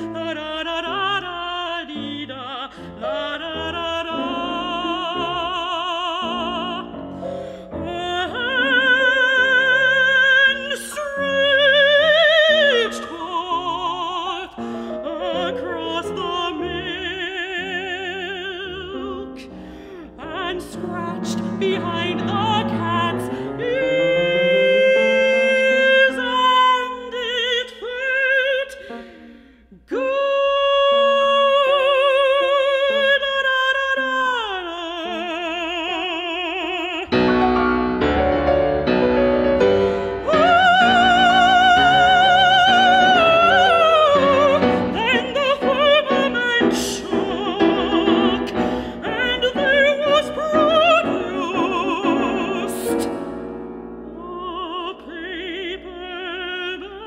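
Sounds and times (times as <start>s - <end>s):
woman singing operatic vocalise: 0.0s - 37.7s, 39.5s - 57.0s
piano: 0.0s - 57.0s.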